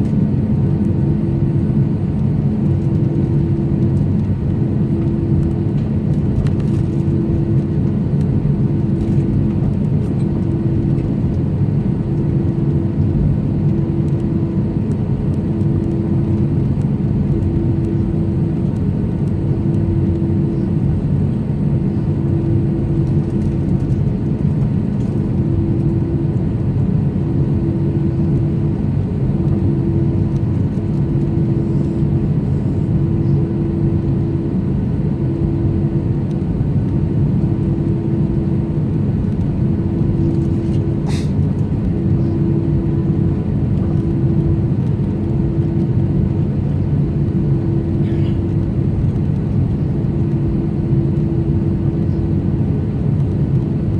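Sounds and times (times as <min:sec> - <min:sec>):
low mechanical rumble: 0:00.0 - 0:53.9.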